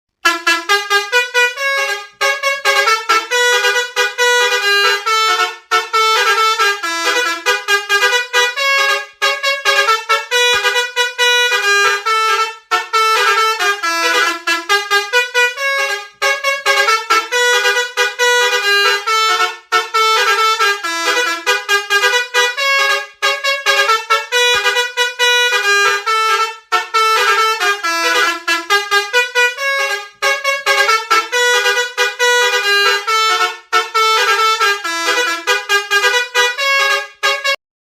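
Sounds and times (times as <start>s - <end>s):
multi-tone bus horn melody: 0.1s - 37.6s.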